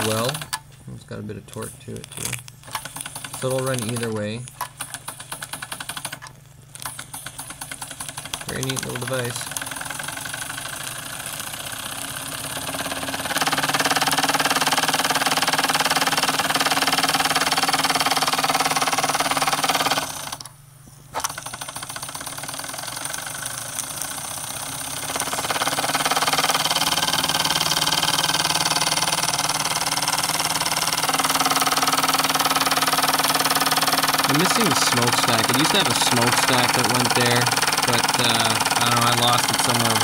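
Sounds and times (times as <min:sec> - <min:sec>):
toy steam engine rattling: 0:00.0 - 0:00.6, 0:02.2 - 0:20.5, 0:21.2 - 0:40.0.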